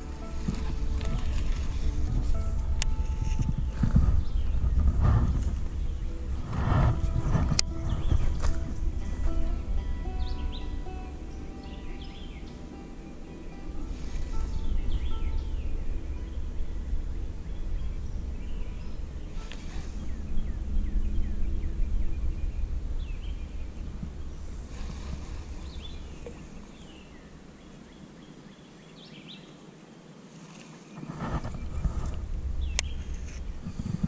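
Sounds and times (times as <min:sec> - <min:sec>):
wind rumbling on microphone: 0:00.0 - 0:29.5, 0:30.9 - 0:34.0
bird chirps: 0:00.0 - 0:29.6, 0:30.9 - 0:34.0.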